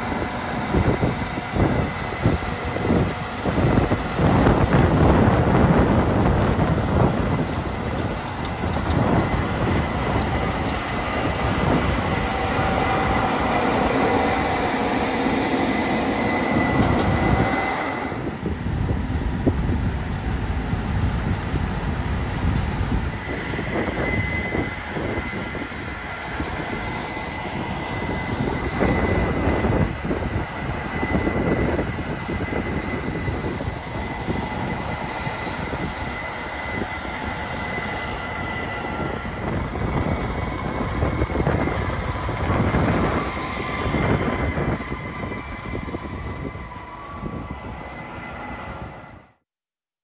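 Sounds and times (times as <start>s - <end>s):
tractor passing: 0.0s - 19.3s, 21.4s - 49.2s
combine harvester rumble and whine: 0.0s - 49.4s.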